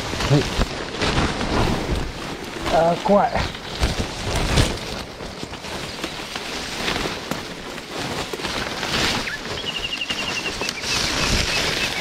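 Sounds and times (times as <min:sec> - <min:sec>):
bamboo rustling against body: 0:00.0 - 0:12.0.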